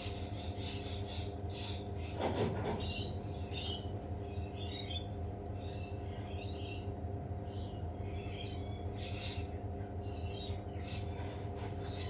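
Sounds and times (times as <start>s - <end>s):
birds warbling: 0.0s - 12.0s
steady low hum: 0.0s - 12.0s.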